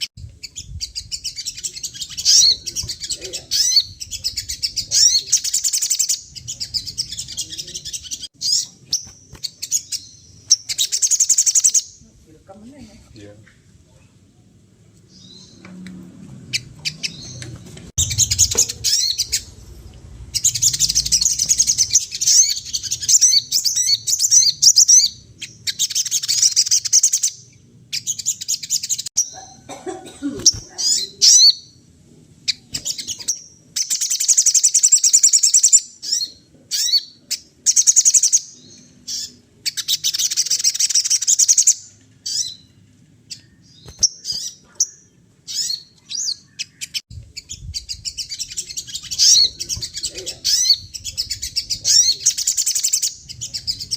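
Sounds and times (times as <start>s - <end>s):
bird calls: 0.0s - 12.0s, 16.4s - 31.8s, 32.4s - 53.9s
songbird chattering: 0.0s - 12.2s, 16.5s - 29.8s, 30.4s - 31.8s, 32.4s - 42.7s, 43.3s - 53.9s.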